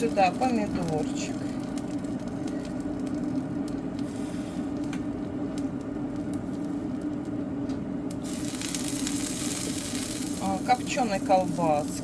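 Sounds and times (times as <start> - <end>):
electric kettle rumbling: 0.0 - 12.0.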